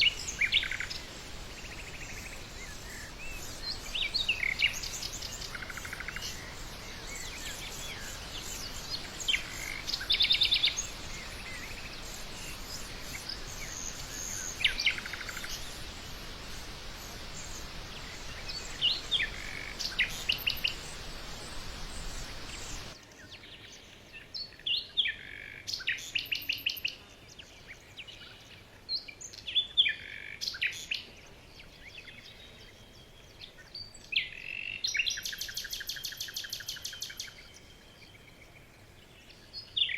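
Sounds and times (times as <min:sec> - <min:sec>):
steady hiss: 0:00.0 - 0:24.2, 0:29.3 - 0:39.9
small birds chirping and trilling: 0:00.0 - 0:39.9.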